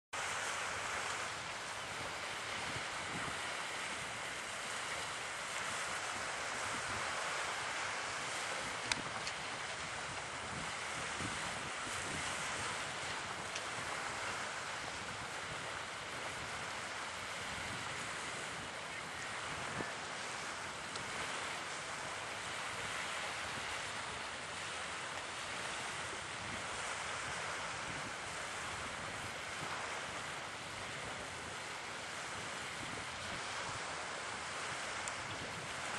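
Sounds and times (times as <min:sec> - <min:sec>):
wind: 0:00.1 - 0:35.9
small waves washing at shore: 0:00.2 - 0:35.9.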